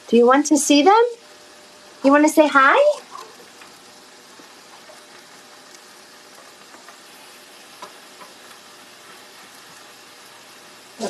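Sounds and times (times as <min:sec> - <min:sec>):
chicken frying in a pan: 0:00.0 - 0:11.0.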